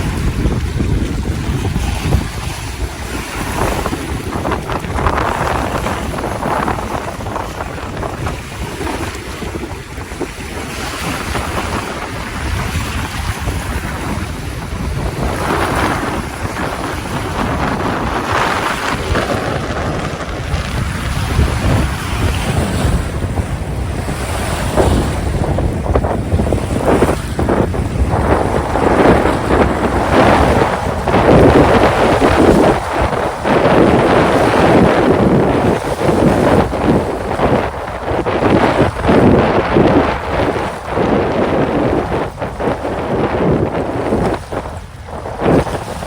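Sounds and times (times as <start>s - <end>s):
sea waves washing in: 0.0s - 46.0s
wind buffeting microphone: 0.0s - 46.0s.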